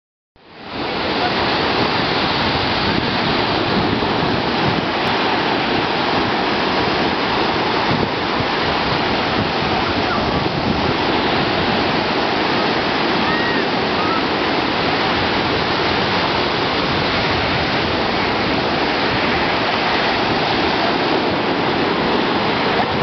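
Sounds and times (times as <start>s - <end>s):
ocean surf breaking: 0.4s - 23.0s.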